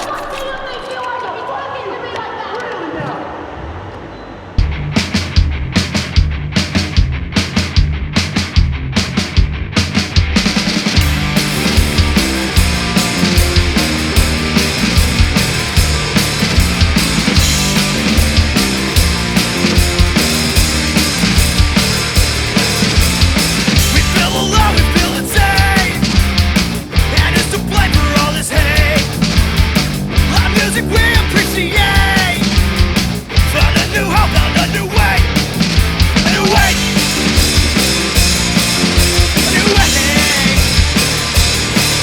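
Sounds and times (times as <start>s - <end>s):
punk rock band playing: 4.6s - 42.0s.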